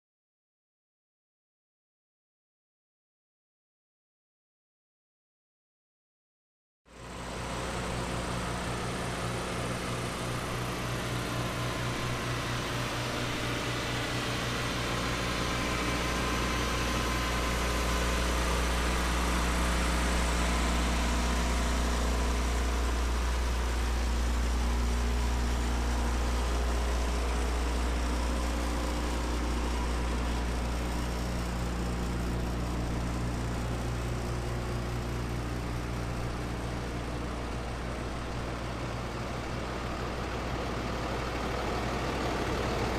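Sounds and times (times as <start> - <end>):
street sweeper engine running: 7.0 - 42.9.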